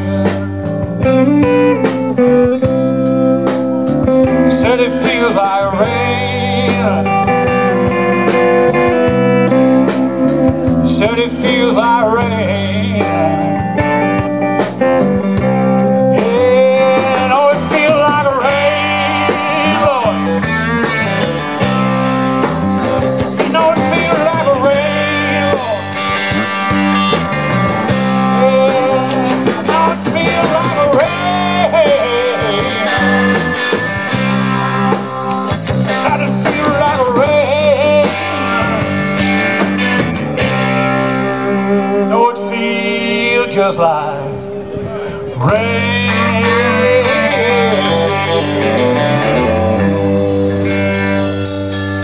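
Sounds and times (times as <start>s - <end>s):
bass: 0.0s - 52.0s
drums: 0.0s - 52.0s
electric guitar bending notes: 0.0s - 52.0s.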